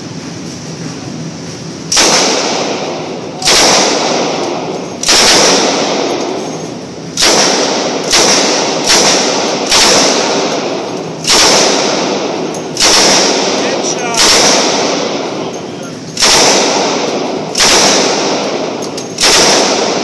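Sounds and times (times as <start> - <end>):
gunshots echoing indoors: 1.9 - 20.0.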